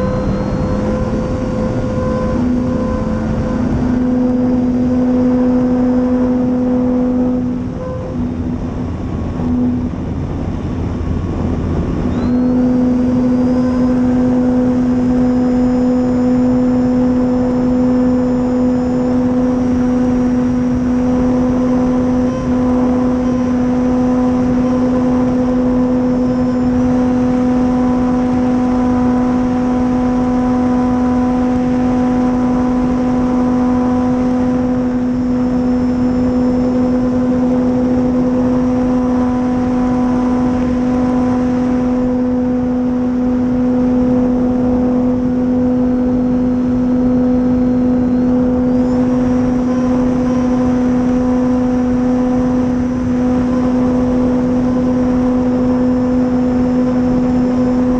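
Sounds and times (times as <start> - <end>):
electric motor and propeller drone: 0.0 - 57.9.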